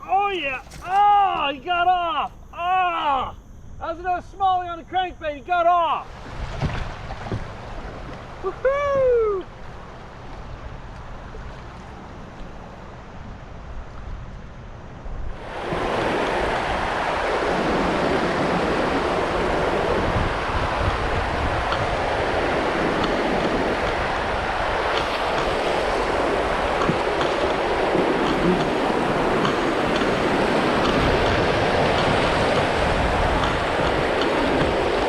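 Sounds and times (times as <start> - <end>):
water rushing over shoals: 6.0 - 35.0.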